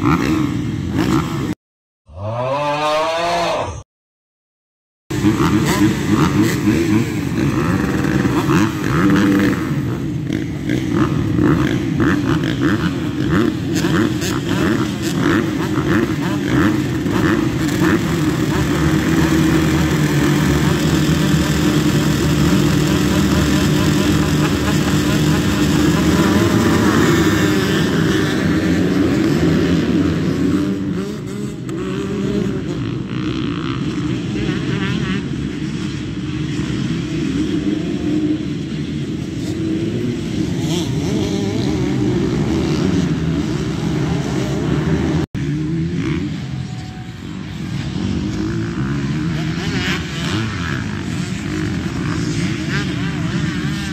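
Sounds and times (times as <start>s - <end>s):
motocross bikes revving: 0.0s - 1.6s, 2.2s - 3.8s, 5.1s - 53.9s.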